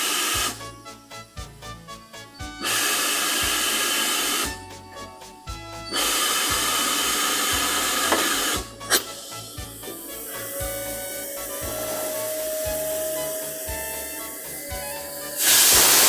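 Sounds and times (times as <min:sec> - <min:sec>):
background piano music: 0:00.0 - 0:16.0
steam locomotive hissing: 0:00.0 - 0:16.0.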